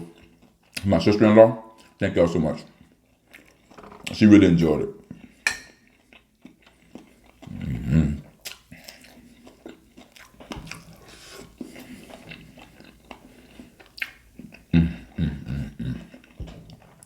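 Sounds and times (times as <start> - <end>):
chewing crisp fried food: 0.0 - 1.0, 2.7 - 3.8, 5.0 - 17.0.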